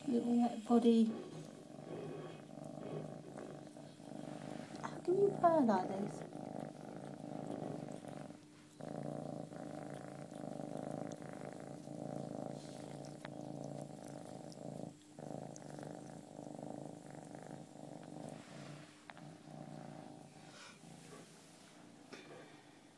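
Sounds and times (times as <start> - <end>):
cat purring loudly: 0.0 - 22.2.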